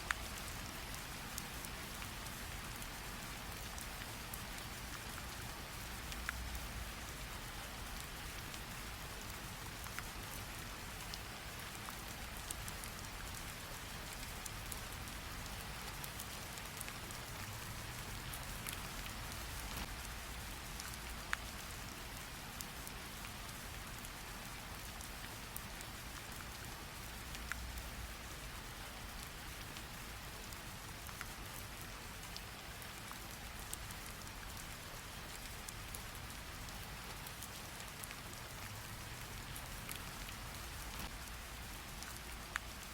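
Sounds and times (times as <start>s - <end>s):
raindrop ticks: 0.0s - 42.9s
steady rainfall: 0.0s - 42.9s.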